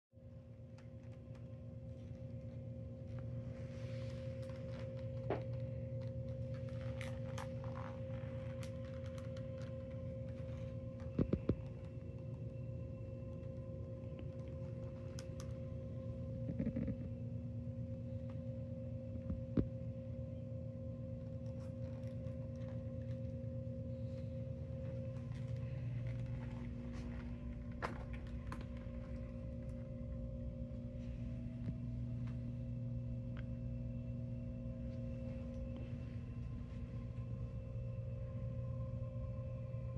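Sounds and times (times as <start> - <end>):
steady hum with held tone: 0.1 - 39.9.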